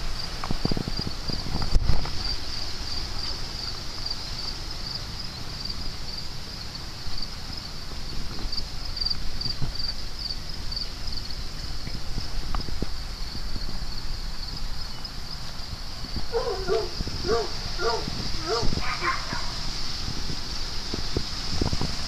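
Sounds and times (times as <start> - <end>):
insects droning chirr: 0.0 - 22.0
wind rumble on microphone: 0.0 - 22.0.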